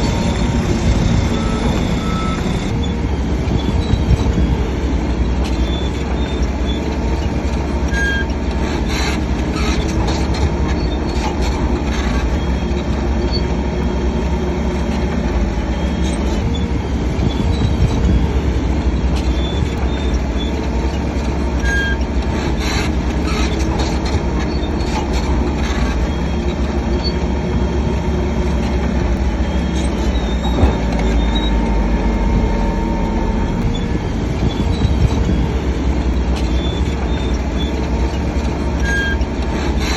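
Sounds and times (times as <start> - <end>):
bulldozer diesel engine running: 0.0 - 39.9
steel tracks clanking and squealing: 0.0 - 39.9.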